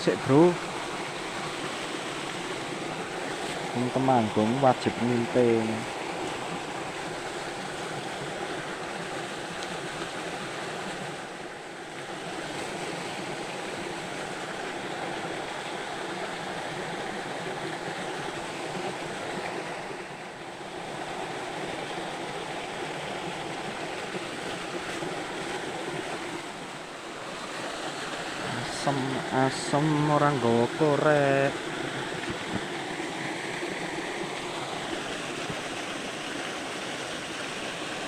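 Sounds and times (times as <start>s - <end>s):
flowing river water: 0.0s - 38.0s.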